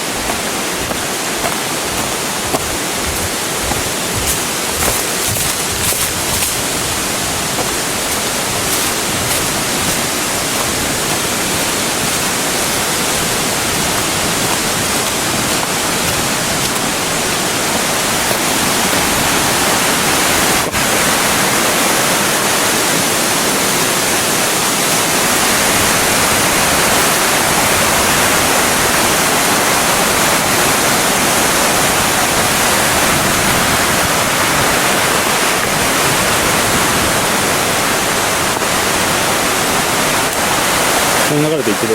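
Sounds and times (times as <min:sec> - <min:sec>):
waterfall pouring: 0:00.0 - 0:41.9.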